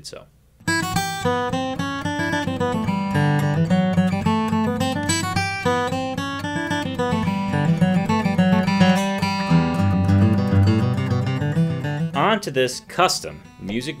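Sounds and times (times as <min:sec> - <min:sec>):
acoustic guitar fingerstyle: 0:00.6 - 0:13.8.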